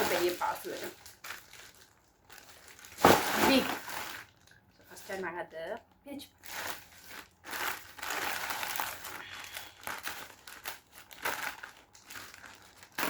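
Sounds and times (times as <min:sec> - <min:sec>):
parcel packaging crinkling: 0:00.0 - 0:13.0.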